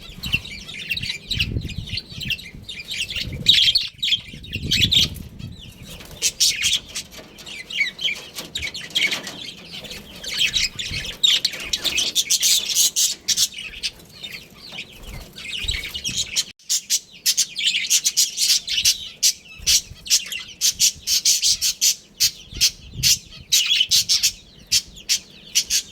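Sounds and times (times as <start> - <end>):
budgerigars chattering and chirping: 0.0 - 25.9.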